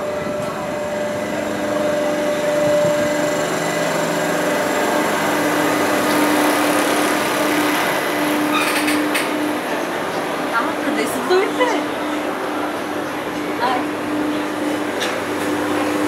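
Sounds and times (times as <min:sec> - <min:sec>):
ride machinery humming: 0:00.0 - 0:16.0.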